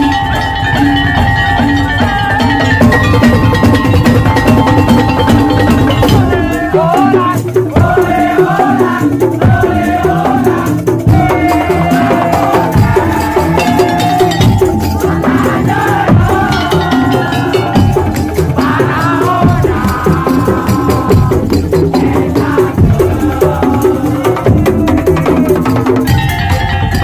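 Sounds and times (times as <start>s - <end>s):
wooden slit drums and drums: 0.0s - 27.0s.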